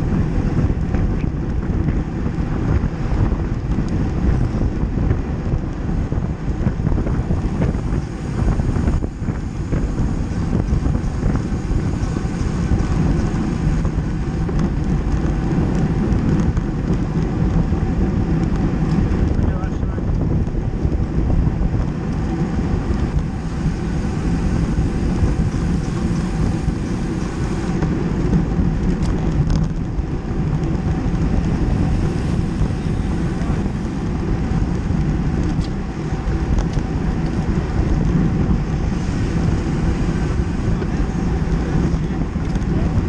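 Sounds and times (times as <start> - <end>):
wind rush on microphone: 0.0 - 43.0.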